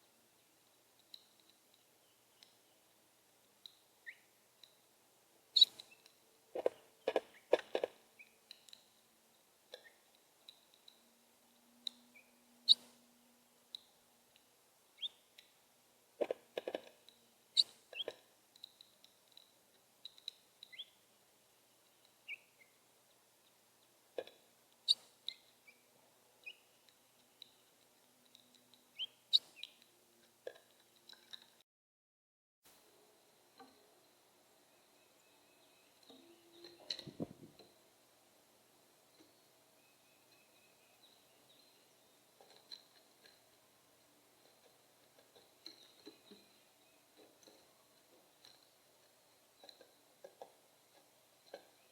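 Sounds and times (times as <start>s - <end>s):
small birds chirping: 0.3s - 31.6s, 33.4s - 51.9s.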